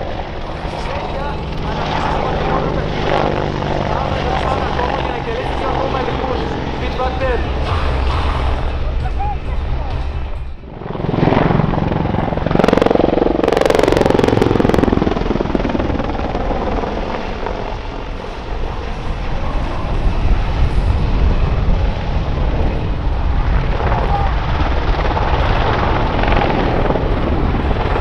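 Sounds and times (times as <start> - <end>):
helicopter engines: 0.0 - 28.0
helicopter rotor chop: 0.0 - 28.0.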